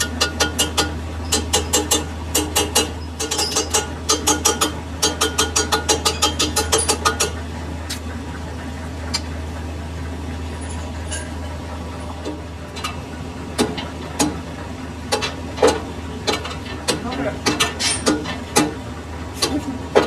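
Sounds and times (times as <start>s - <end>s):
shop machinery hum: 0.0s - 20.0s.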